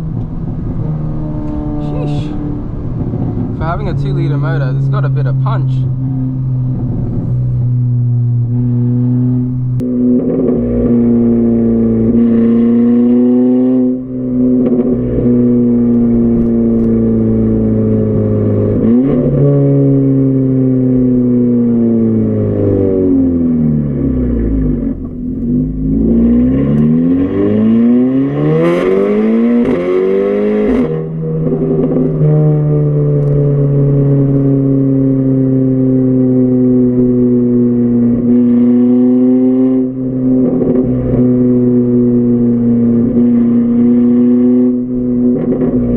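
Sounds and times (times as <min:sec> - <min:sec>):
car exhaust droning: 0:00.0 - 0:45.9.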